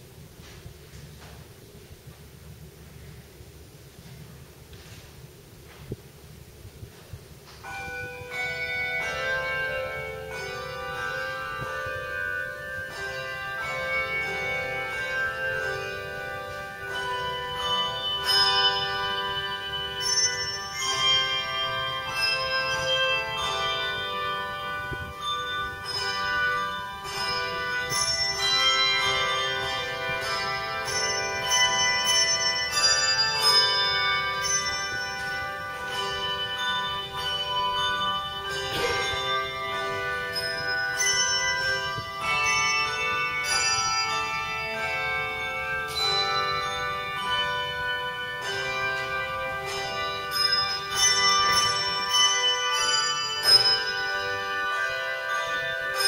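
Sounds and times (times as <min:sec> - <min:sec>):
handbell choir playing: 0:07.6 - 0:56.0.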